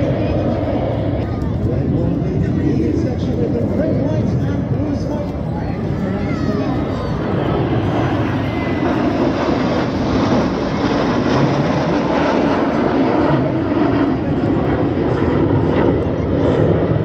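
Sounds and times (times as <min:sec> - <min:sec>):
jet aircraft noise: 0:00.0 - 0:17.0.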